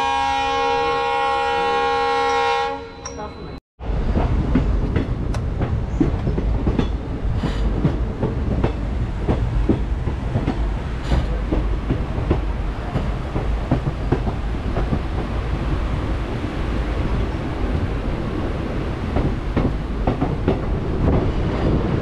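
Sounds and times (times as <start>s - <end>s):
train wheels rumbling: 3.1s - 22.0s.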